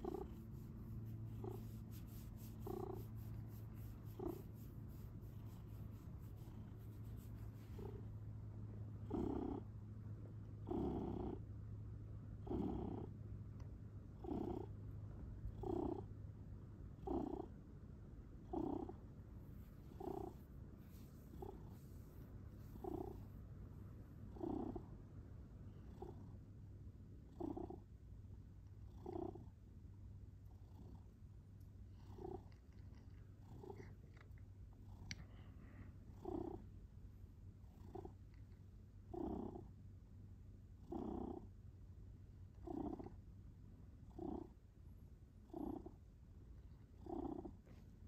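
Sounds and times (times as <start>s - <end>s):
cat purring: 0.0s - 16.2s, 16.9s - 17.6s, 18.3s - 29.6s, 30.2s - 36.8s, 37.6s - 39.8s, 40.8s - 41.5s, 42.5s - 43.3s, 43.9s - 44.6s, 45.4s - 48.0s.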